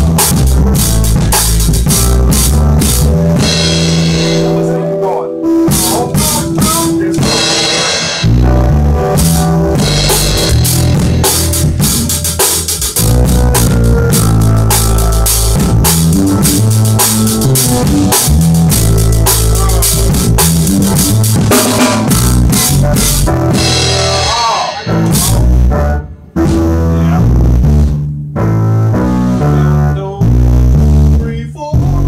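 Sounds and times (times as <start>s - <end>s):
drum kit playing a groove: 0.0s - 29.9s
bass line: 0.0s - 32.0s.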